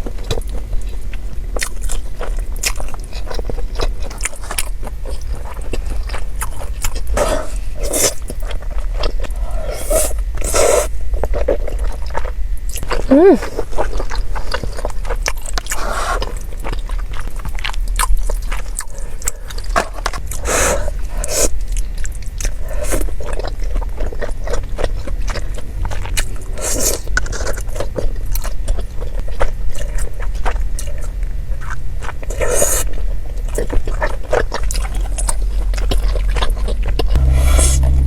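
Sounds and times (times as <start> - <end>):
person chewing food: 0.1 - 38.0.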